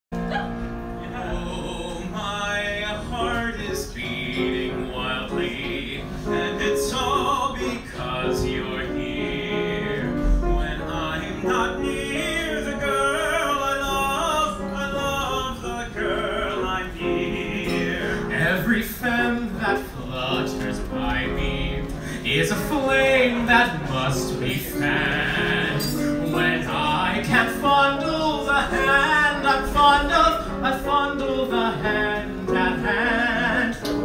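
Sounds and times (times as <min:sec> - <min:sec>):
group singing into microphones: 0:00.3 - 0:14.0, 0:15.8 - 0:34.0.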